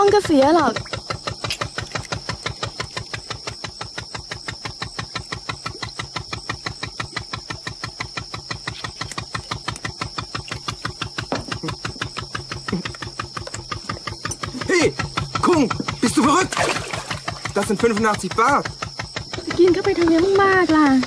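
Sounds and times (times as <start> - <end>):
boat engine chugging: 0.0 - 21.0.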